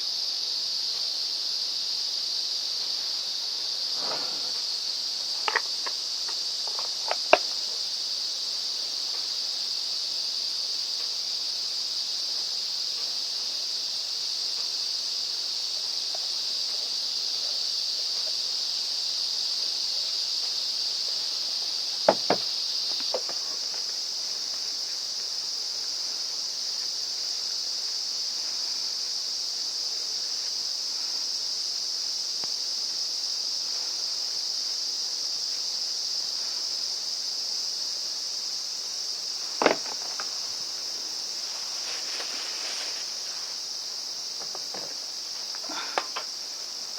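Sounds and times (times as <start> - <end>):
insect drone: 0.0 - 46.9.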